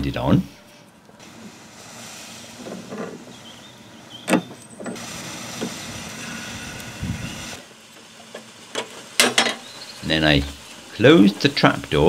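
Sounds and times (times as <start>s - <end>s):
water rushing through a tap: 1.2s - 12.0s.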